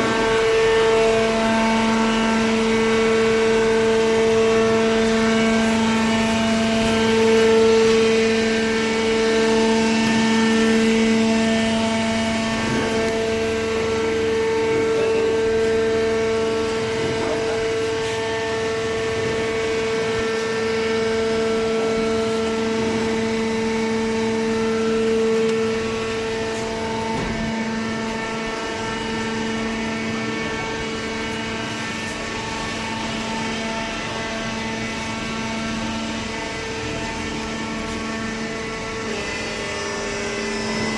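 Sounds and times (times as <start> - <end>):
baler machine humming: 0.0 - 40.9.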